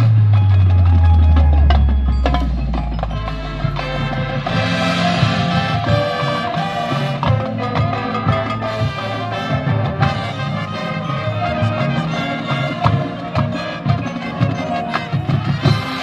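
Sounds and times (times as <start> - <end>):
brass holding chords: 1.6 - 16.0.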